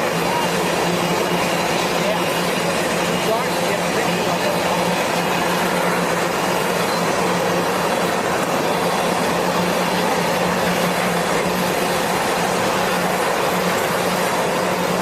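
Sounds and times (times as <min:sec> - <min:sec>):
freight train wheels on rail: 0:00.0 - 0:15.0.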